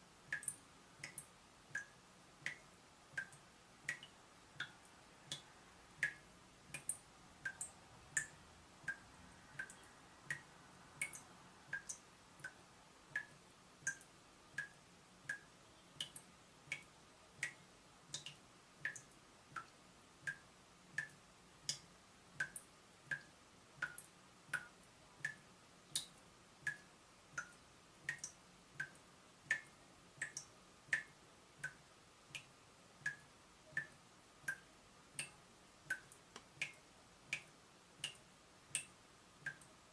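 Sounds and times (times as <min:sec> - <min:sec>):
water dripping from tap: 0:00.3 - 0:39.7.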